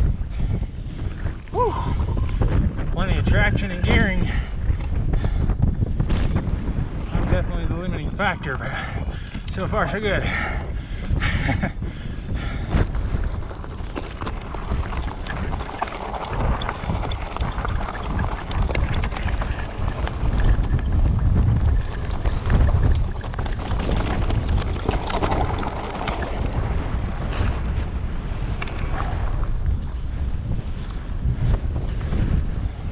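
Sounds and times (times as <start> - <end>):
bike tyres clicking and rattling: 0.0 - 32.9
wind buffeting microphone: 0.0 - 32.9.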